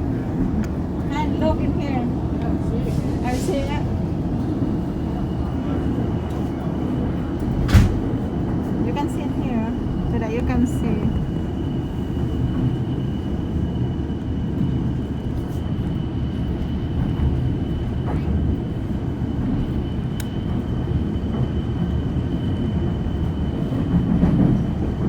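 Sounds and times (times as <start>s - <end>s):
train rumble from aboard: 0.0s - 25.0s.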